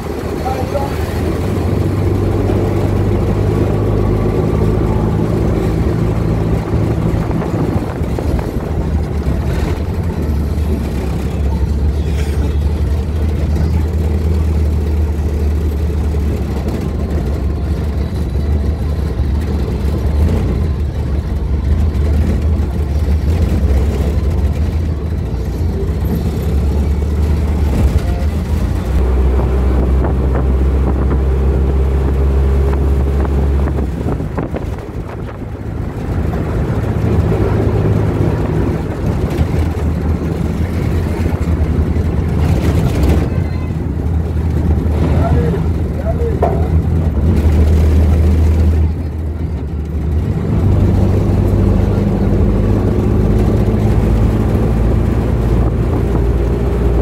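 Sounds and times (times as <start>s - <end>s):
road noise: 0.0s - 57.0s
vehicle engine drone: 0.0s - 57.0s.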